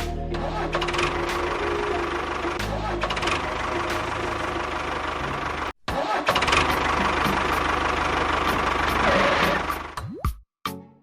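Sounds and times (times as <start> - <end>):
engine humming: 0.3 - 10.0.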